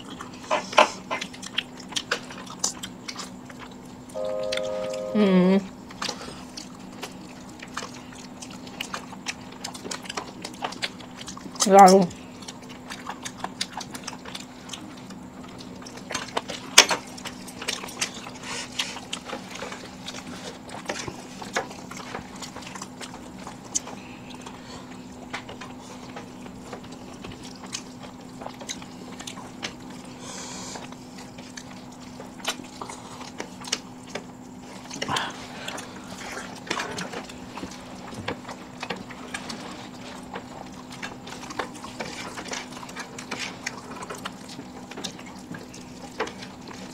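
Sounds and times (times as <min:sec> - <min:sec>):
people chewing: 0:00.0 - 0:46.9.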